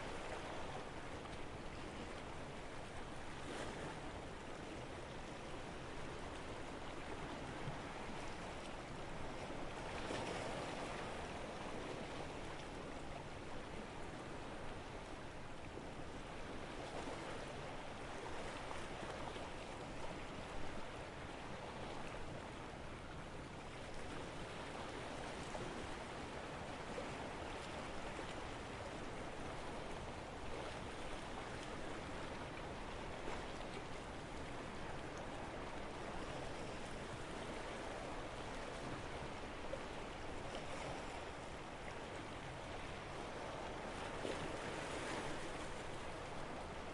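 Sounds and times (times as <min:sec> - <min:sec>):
sea waves lapping at shore: 0:00.0 - 0:46.9.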